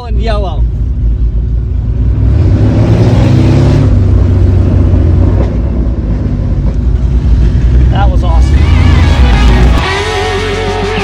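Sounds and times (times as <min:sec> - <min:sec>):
car engine revving: 0:00.9 - 0:11.0.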